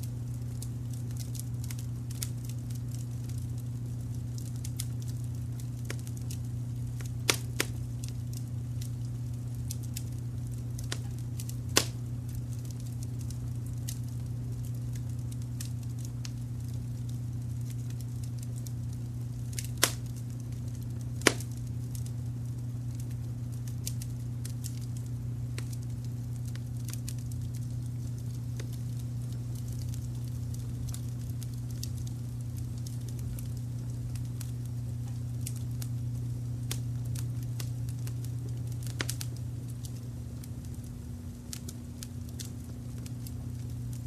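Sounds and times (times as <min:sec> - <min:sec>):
low steady rumble: 0:00.0 - 0:44.0
wood fire crackling: 0:00.0 - 0:44.0
sharp pops of fire: 0:00.1 - 0:44.0.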